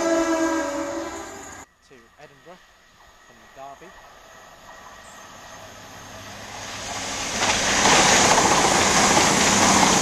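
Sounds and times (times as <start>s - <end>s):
diesel train passing: 0.0s - 10.0s.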